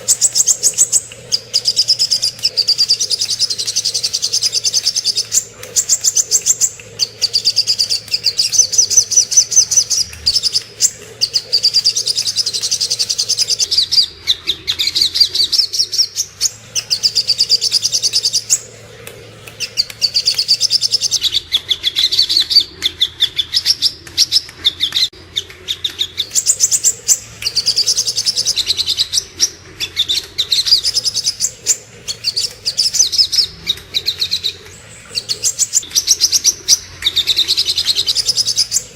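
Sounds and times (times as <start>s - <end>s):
sunbird twittering trills: 0.0s - 14.1s, 14.7s - 18.8s, 19.6s - 22.6s, 26.0s - 38.9s.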